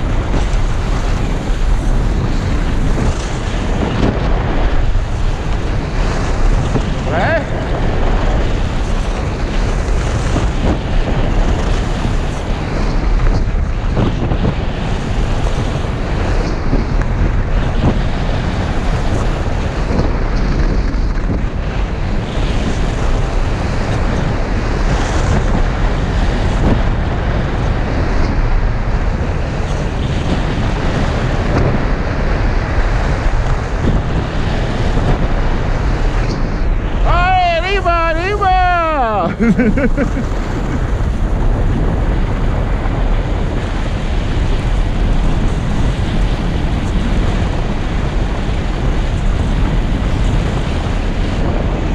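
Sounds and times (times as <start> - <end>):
wind over microphone: 0.0 - 51.9.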